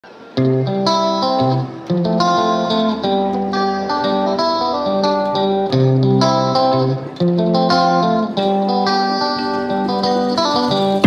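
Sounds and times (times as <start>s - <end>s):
guitar plucking a melody: 0.0s - 11.0s.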